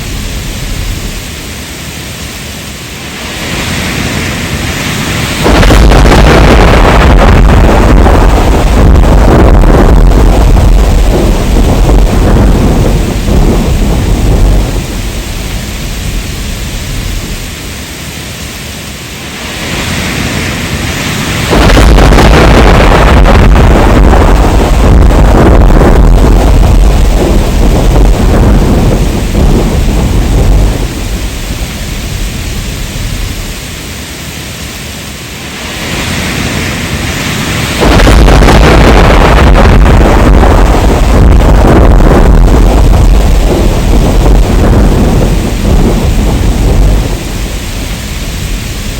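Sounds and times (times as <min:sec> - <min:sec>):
rolling thunder: 0:00.0 - 0:01.6, 0:03.0 - 0:34.0, 0:35.5 - 0:48.9
heavy rain: 0:00.0 - 0:48.9.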